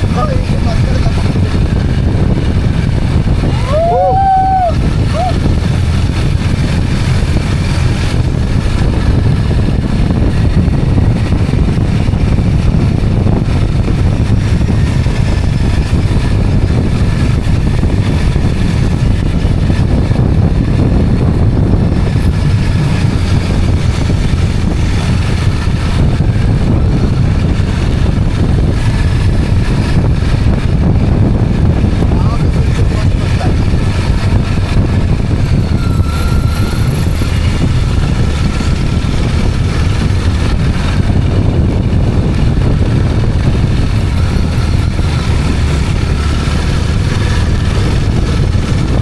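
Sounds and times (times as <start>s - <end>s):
motorcycle engine rumble: 0.0s - 49.0s
wind buffeting microphone: 0.0s - 49.0s.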